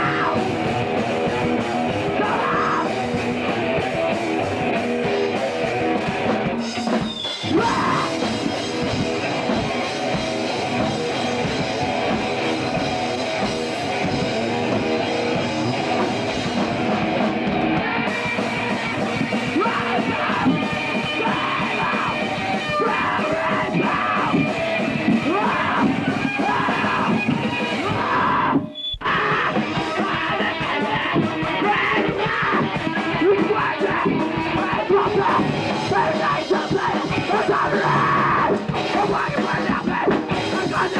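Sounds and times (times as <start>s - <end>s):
punk rock band playing: 0.0s - 40.9s
yelled vocals: 0.0s - 40.9s.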